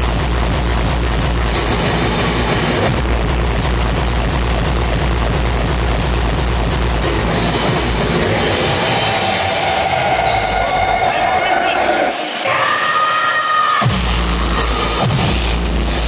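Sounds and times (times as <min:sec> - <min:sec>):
loud distorted hardcore techno: 0:00.0 - 0:16.0.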